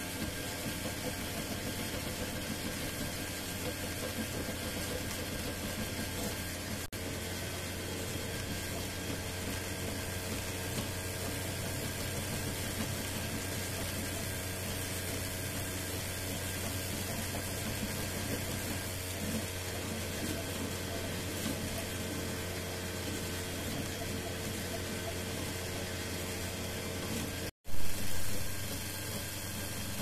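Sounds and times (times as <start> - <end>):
printer motors and fans whirring: 0.0 - 30.0.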